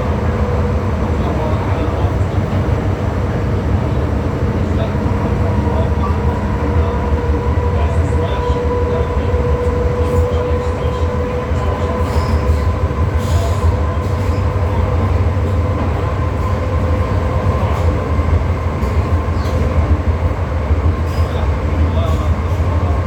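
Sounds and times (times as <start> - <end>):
train wheels rumbling on track: 0.0 - 23.0.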